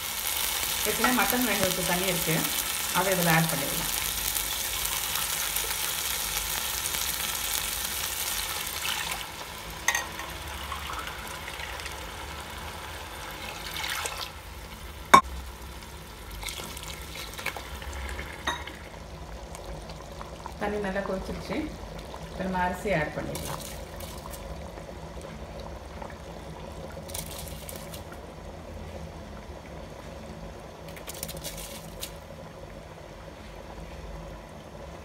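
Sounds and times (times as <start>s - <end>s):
stock sizzling in hot pot: 0.0s - 28.1s, 30.8s - 32.4s.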